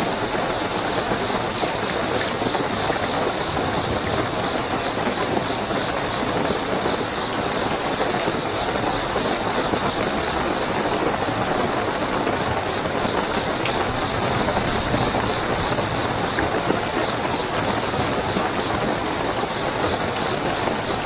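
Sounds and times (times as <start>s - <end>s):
crickets trilling: 0.0s - 21.0s
heavy rainfall: 0.0s - 21.0s.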